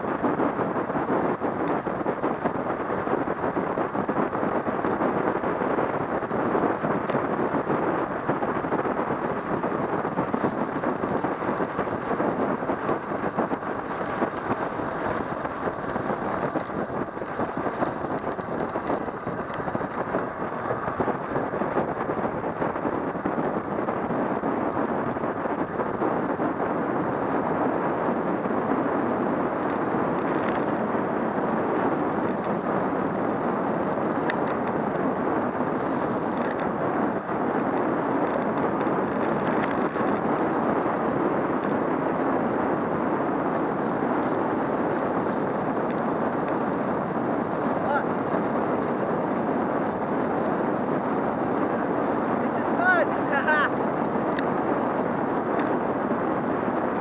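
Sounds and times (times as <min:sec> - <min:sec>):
road noise: 0:00.0 - 0:57.0
wind rushing over microphone: 0:00.0 - 0:57.0.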